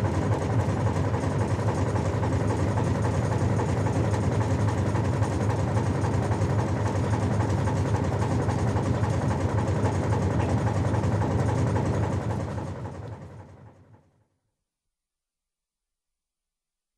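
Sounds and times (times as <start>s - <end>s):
ship engine hum and rumble: 0.0s - 13.8s.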